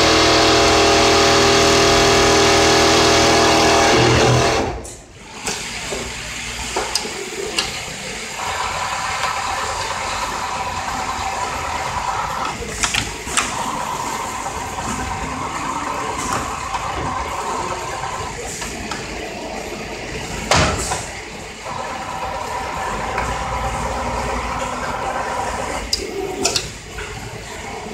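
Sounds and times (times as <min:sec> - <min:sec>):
sewing machine humming: 0:00.0 - 0:20.3, 0:21.2 - 0:27.9.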